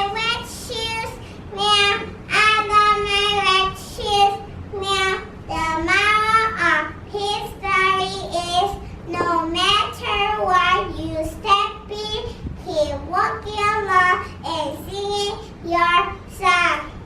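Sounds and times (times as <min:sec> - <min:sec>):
girl singing: 0:00.0 - 0:17.0.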